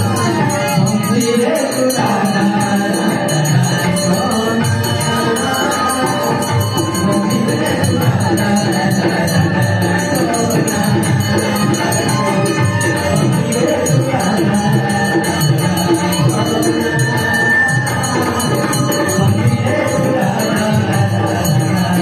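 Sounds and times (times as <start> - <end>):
group devotional singing: 0.0 - 22.0
steady percussion beat: 0.0 - 22.0.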